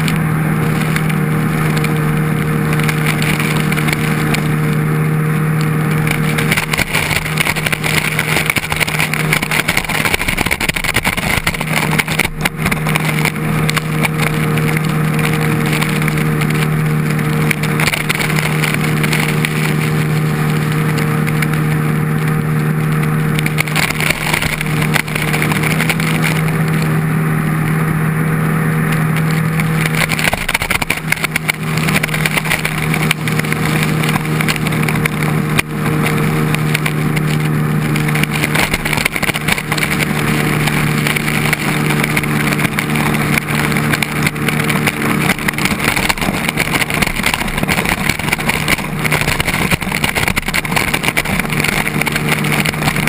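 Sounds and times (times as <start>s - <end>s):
jet ski engine running: 0.0s - 53.0s
rushing spray and churning water: 0.0s - 53.0s.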